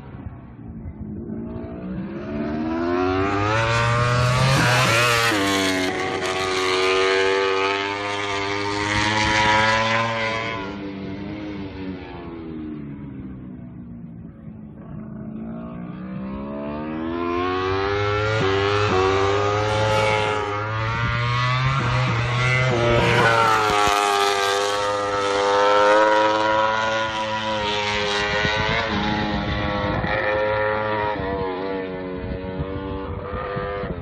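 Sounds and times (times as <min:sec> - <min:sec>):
racing motorcycle engine upshifting: 0:00.0 - 0:34.0.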